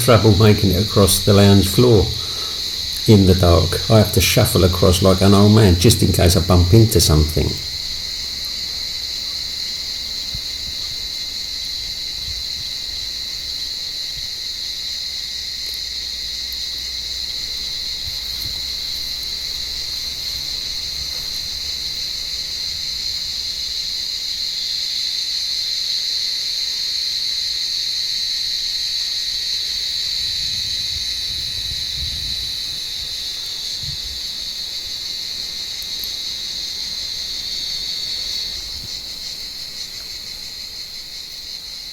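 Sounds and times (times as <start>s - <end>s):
cicadas singing: 0.0s - 41.9s.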